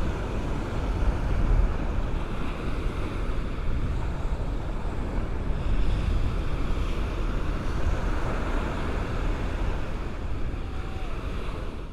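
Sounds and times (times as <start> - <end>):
ocean waves washing ashore: 0.0 - 11.9
wind rumbling on microphone: 0.0 - 11.9.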